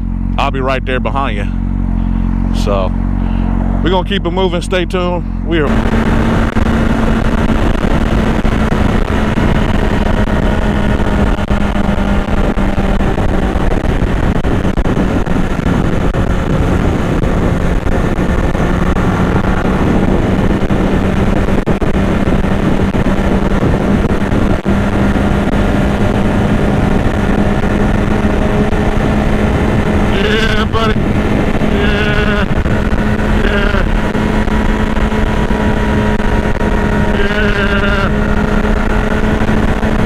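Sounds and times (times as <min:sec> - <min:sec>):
motorcycle engine cruising: 0:00.0 - 0:40.0
wind and road noise: 0:00.0 - 0:40.0.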